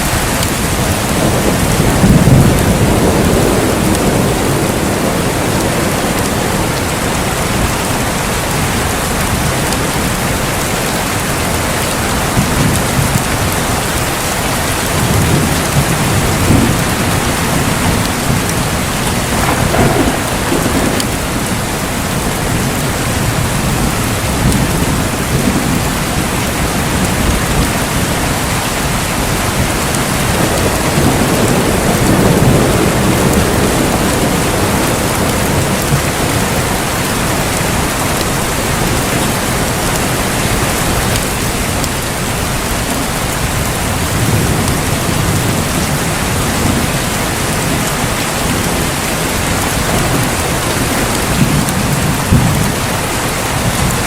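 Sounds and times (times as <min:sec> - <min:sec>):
heavy rain: 0:00.0 - 0:54.0
rolling thunder: 0:00.0 - 0:54.0.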